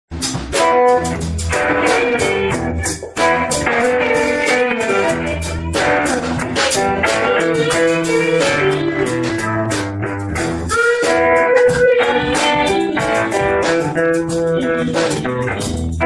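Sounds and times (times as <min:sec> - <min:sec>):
electric bass: 0:00.1 - 0:16.0
strummed guitar: 0:00.1 - 0:16.0.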